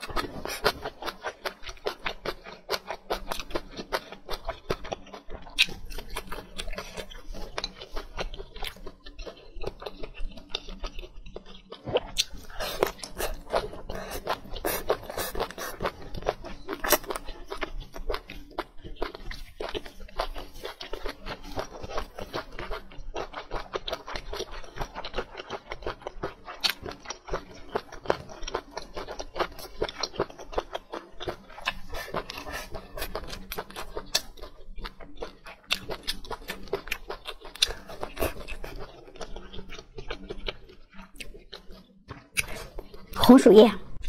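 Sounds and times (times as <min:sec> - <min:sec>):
chewing with mouth clicks: 0:00.0 - 0:43.3.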